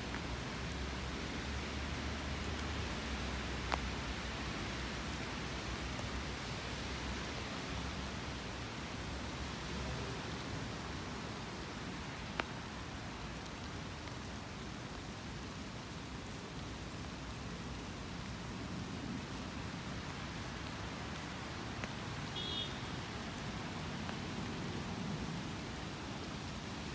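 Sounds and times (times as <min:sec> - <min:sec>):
light rain falling: 0:00.0 - 0:26.9.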